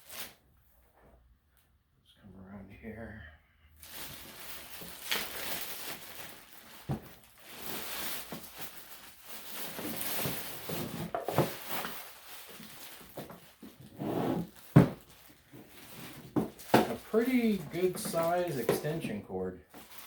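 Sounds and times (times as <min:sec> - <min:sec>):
packaging rustling: 0:03.8 - 0:20.0.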